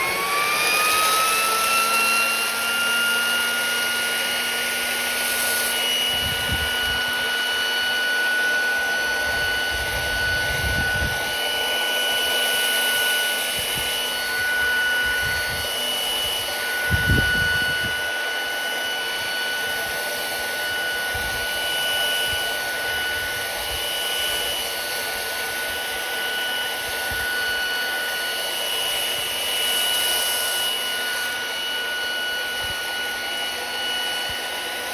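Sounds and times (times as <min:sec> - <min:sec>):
sandblaster motor whining: 0:00.0 - 0:34.9.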